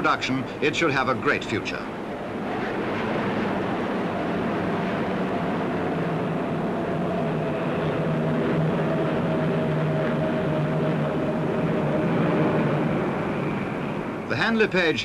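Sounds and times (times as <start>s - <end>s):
airliner engines droning: 0.0s - 15.0s.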